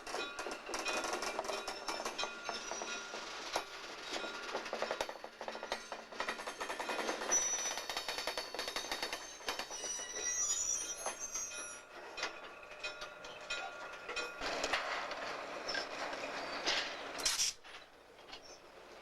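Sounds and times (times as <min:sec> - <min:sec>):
train cars rolling on track: 0:00.0 - 0:19.0
steel wheels squealing: 0:00.2 - 0:18.7.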